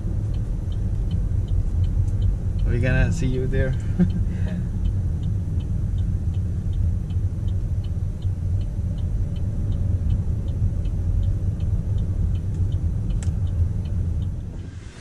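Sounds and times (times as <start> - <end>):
car engine and tyres rumbling: 0.0 - 15.0
turn signal ticking: 0.0 - 15.0.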